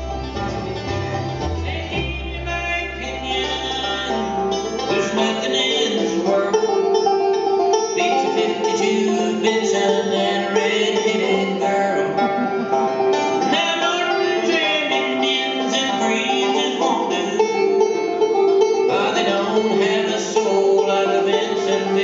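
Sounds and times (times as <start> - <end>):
banjo: 0.0 - 22.0
fiddle: 0.0 - 22.0
mandolin: 0.0 - 22.0
upright bass: 0.0 - 22.0.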